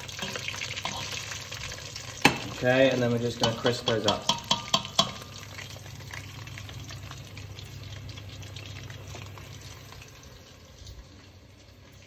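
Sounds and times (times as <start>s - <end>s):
fries sizzling in hot oil: 0.0s - 12.0s.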